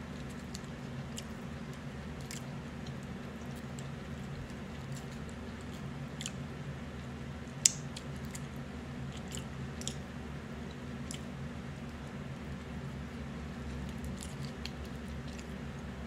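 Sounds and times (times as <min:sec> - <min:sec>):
steady low hum: 0:00.0 - 0:16.0
chewing: 0:00.1 - 0:12.1, 0:13.6 - 0:16.0.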